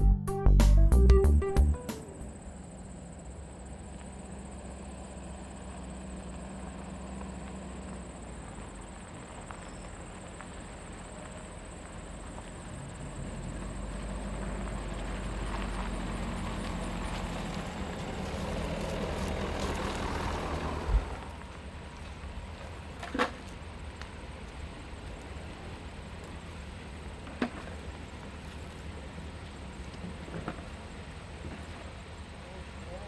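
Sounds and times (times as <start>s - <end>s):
vehicle engine running: 0.0s - 33.0s
engine cutting off with thump: 3.8s - 32.4s.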